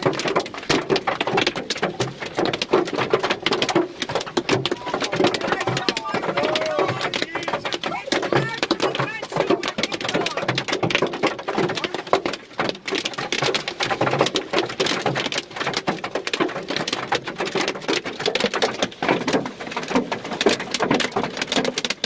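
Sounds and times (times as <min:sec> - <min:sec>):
hailstones hitting car roof: 0:00.0 - 0:22.0.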